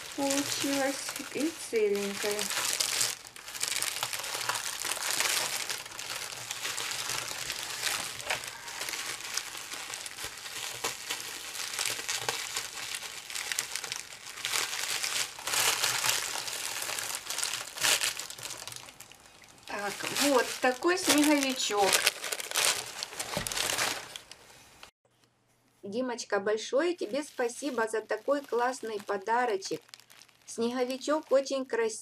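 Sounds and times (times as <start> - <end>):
plastic wrapping crinkling: 0.0 - 24.9, 26.8 - 31.8.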